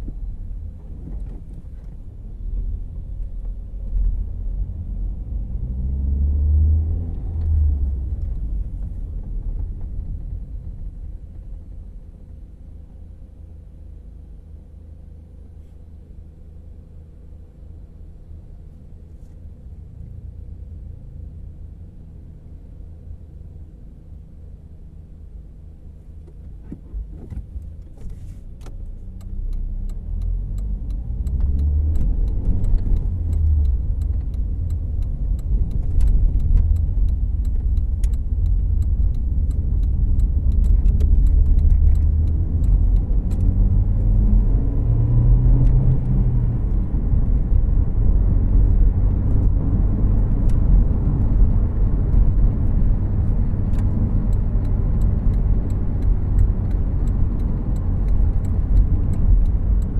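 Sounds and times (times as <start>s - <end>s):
car engine and road noise drone: 0.0s - 59.9s.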